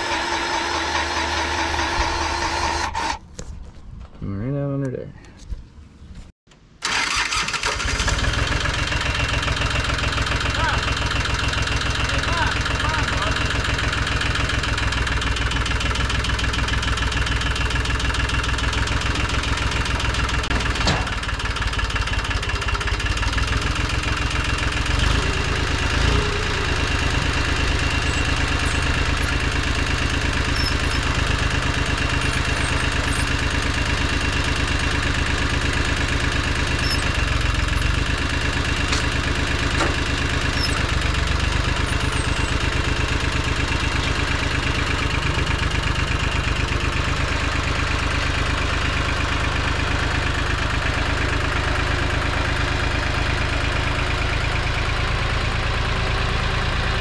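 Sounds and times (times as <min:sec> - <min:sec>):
tractor engine running: 0:00.0 - 0:03.4, 0:06.5 - 0:57.0.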